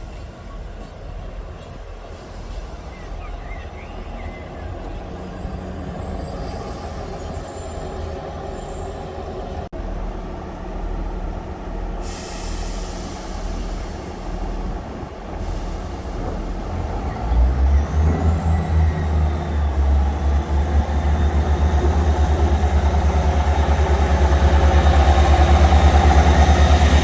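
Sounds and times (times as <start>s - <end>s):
diesel train engine rumble: 0.0s - 27.0s
rail noise: 0.0s - 27.0s.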